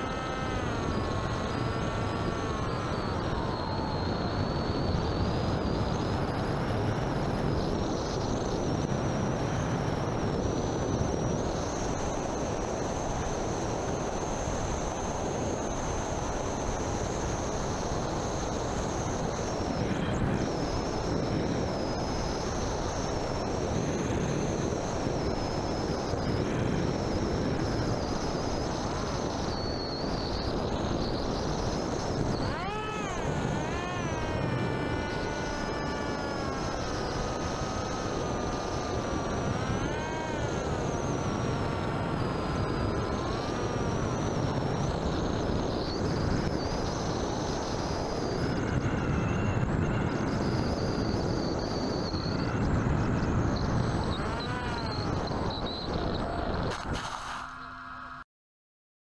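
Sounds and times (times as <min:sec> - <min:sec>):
wind rush on microphone: 0:00.0 - 0:57.1
electric motor and propeller whine: 0:00.0 - 0:58.2.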